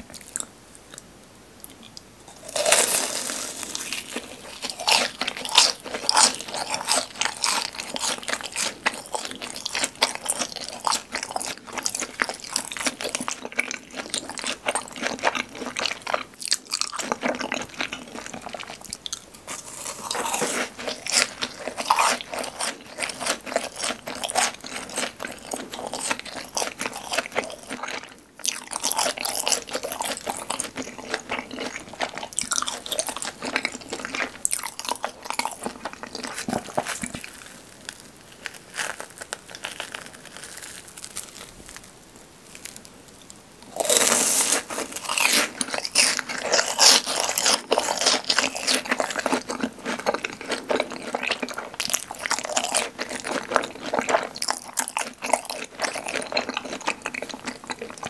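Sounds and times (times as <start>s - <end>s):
crisp chewing: 1.7s - 58.0s
crunchy bites: 1.7s - 58.0s.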